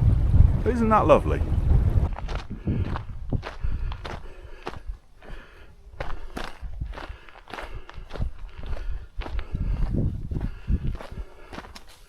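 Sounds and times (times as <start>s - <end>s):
footsteps on outdoor path: 1.6s - 12.0s.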